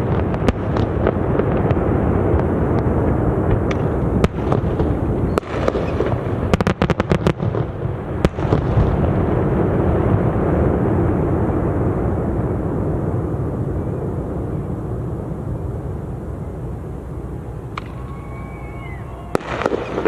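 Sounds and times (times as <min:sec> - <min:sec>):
fireworks bangs and cracks: 0:00.0 - 0:20.0
low rumble of booms: 0:00.0 - 0:20.0.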